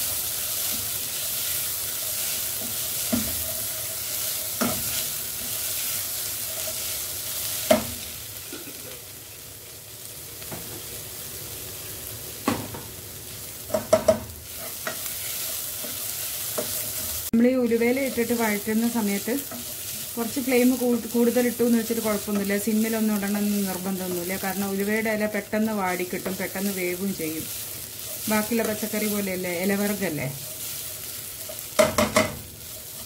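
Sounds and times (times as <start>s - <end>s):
leaves and onion sizzling in pot: 0.0s - 33.0s.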